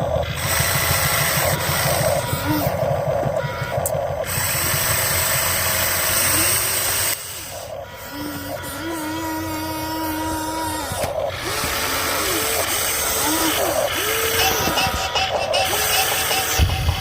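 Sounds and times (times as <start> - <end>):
loud gritty noise: 0.0 - 17.0
small electric motors whining: 0.0 - 17.0.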